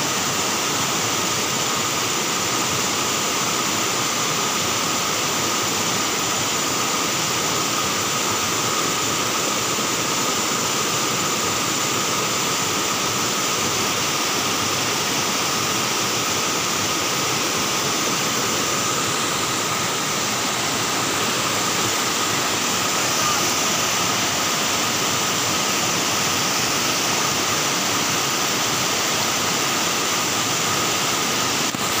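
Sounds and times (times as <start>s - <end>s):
faint high whine: 0.0s - 32.0s
river water rushing over rocks: 0.0s - 32.0s.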